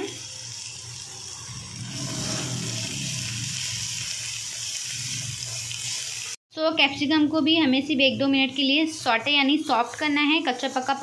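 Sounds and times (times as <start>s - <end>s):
vegetables sizzling in hot oil: 0.0s - 6.4s, 7.0s - 11.0s.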